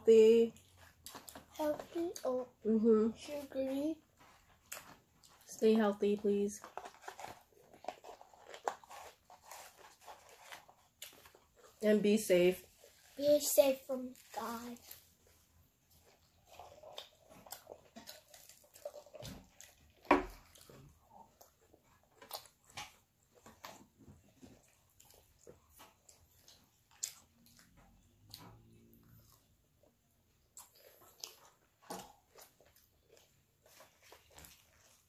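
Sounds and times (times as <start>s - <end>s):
chewing: 0.5s - 2.6s, 3.2s - 5.5s, 6.6s - 11.8s, 14.1s - 35.0s.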